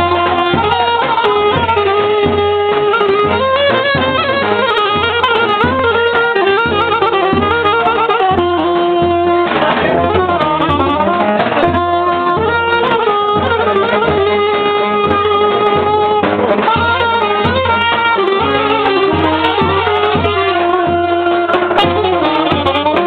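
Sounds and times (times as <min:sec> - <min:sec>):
band accompaniment beat: 0:00.0 - 0:23.0
saxophone melody: 0:00.0 - 0:23.0.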